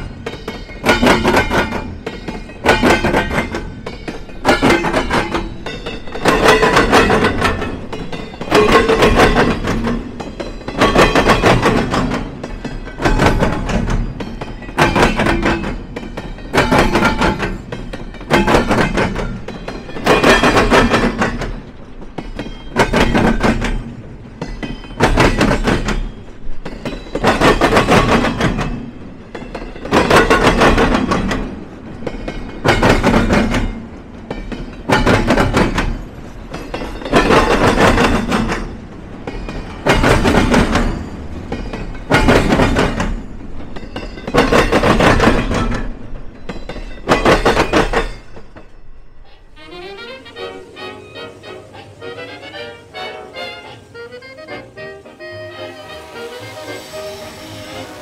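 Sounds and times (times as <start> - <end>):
train wheels clattering over crossing: 0.0 - 58.0.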